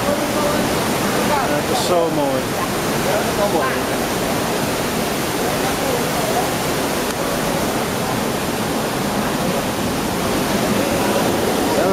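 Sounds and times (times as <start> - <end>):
falling water rushing: 0.0 - 11.9.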